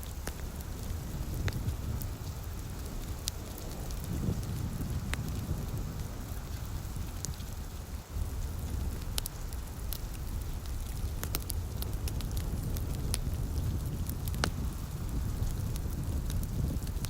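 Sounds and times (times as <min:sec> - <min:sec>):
fireplace crackling: 0:00.0 - 0:17.0
soft hiss of light rain: 0:00.0 - 0:17.0.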